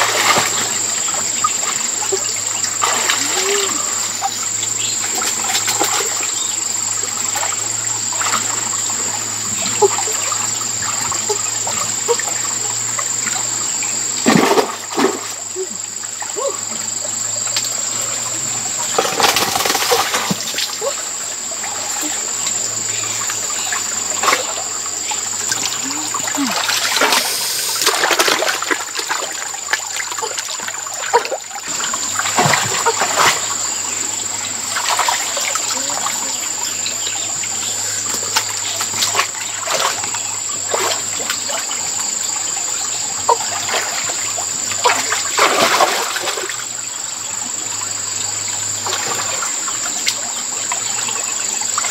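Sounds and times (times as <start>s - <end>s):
trickle of running water: 0.0s - 51.9s
water splashing: 0.0s - 51.9s.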